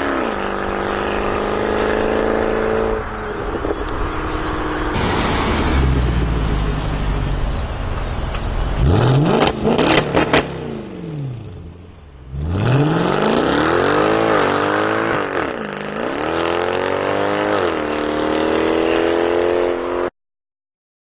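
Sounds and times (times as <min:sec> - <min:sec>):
car engine accelerating hard: 0:00.0 - 0:20.1.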